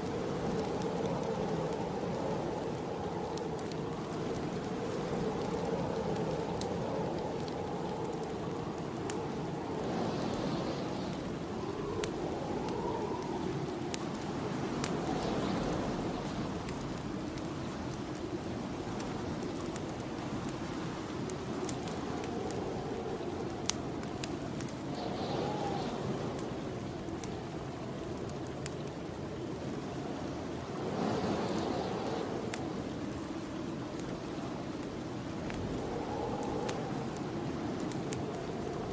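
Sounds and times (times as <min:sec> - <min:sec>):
wind gusting and moaning: 0:00.0 - 0:38.9
wood fire crackling: 0:00.0 - 0:38.9.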